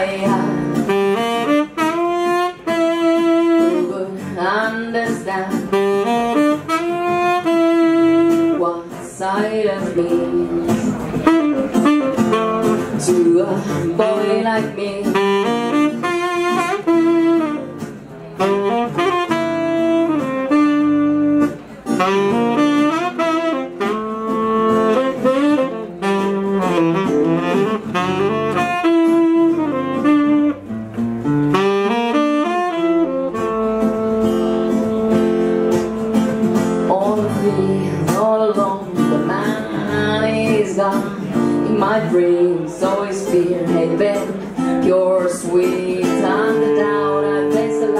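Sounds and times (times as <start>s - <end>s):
saxophone melody: 0.0s - 8.8s, 9.9s - 47.9s
acoustic guitar accompaniment: 0.0s - 47.9s.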